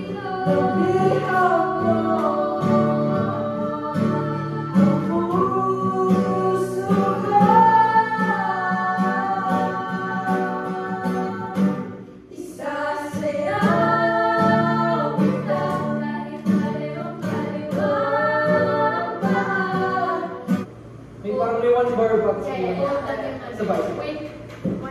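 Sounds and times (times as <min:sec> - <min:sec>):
women singing together: 0:00.0 - 0:20.7
strummed acoustic guitars: 0:00.0 - 0:21.0.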